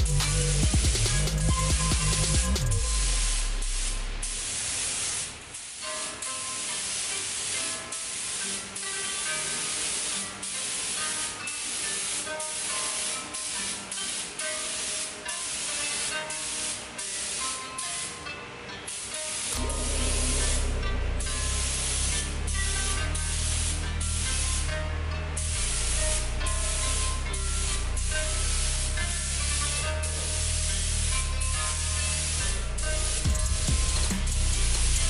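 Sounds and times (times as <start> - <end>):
spray gun hissing: 0.1 - 18.2, 18.9 - 35.0.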